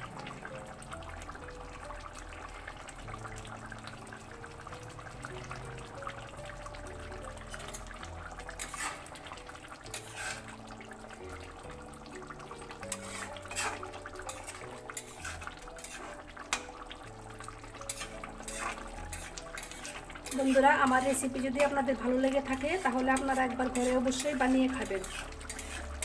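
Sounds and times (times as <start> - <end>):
curry bubbling in a pan: 0.0 - 26.0
soft background music: 0.0 - 26.0.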